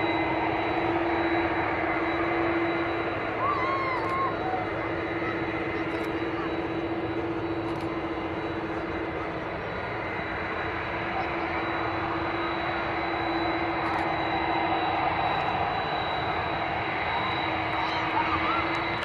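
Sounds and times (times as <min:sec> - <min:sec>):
jet airliner engines running: 0:00.0 - 0:19.0.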